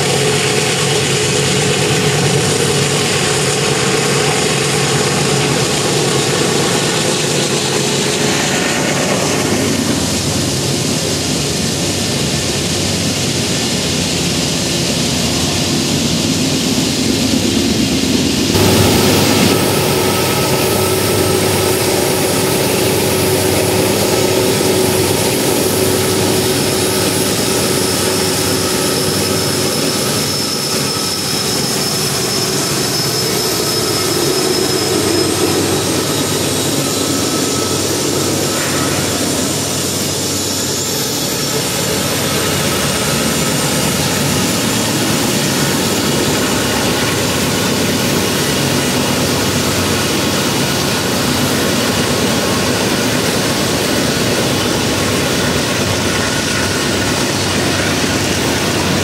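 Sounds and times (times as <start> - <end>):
diesel locomotives under heavy load: 0.0 - 59.0
freight cars rolling over rails: 0.0 - 59.0.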